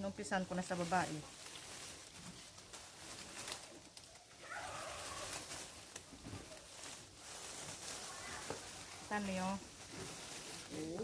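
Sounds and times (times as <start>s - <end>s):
leafy branches rustling: 0.0s - 11.0s.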